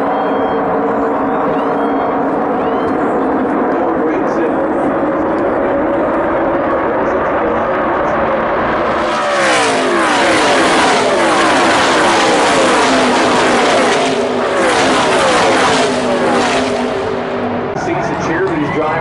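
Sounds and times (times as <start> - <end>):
racing truck engines passing: 0.0 - 18.9.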